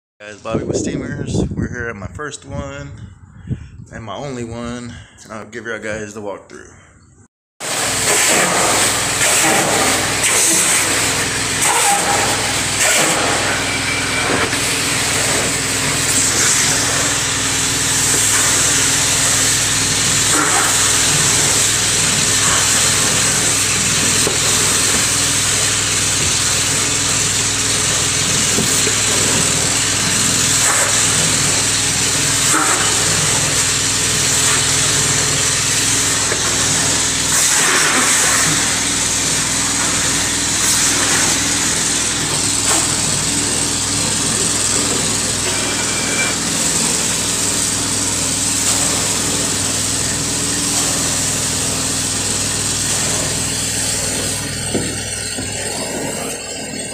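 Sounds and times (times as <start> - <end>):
extraction machine motor hum: 7.6 - 56.9.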